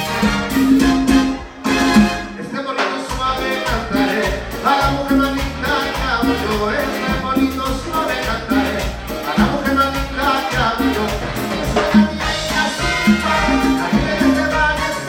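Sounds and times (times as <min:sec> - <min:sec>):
maracas: 0:00.0 - 0:15.0
salsa band playing: 0:00.0 - 0:15.0.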